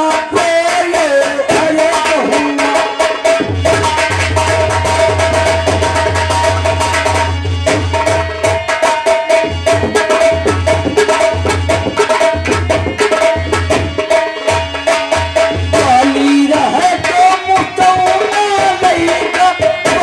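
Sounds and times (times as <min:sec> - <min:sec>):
fast hand-drum strokes: 0:00.0 - 0:20.0.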